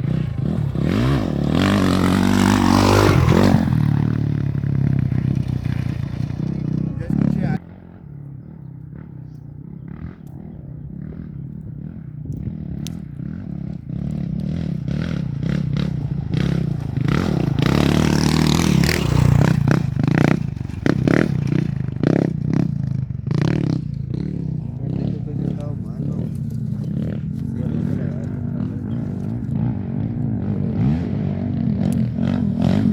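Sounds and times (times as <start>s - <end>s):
motorcycle engine: 0.0s - 32.9s.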